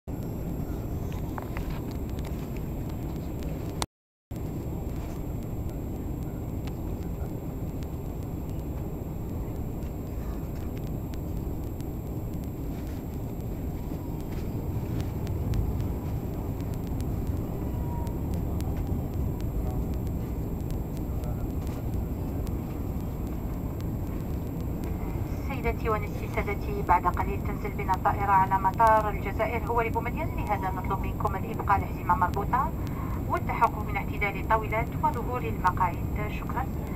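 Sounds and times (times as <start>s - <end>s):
airliner cabin rumble in flight: 0.1s - 36.9s.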